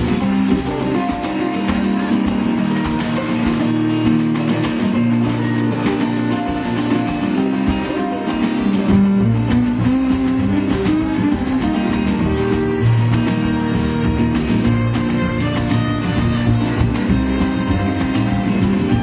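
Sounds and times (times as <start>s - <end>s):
banjo: 0.0s - 19.0s
fiddle: 0.0s - 19.0s
strummed acoustic guitar: 0.0s - 19.0s
upright double bass: 0.0s - 19.0s.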